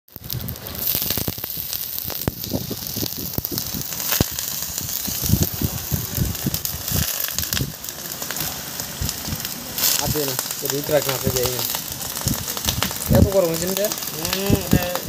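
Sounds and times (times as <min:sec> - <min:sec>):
water sizzling on hot metal: 0:00.1 - 0:15.0.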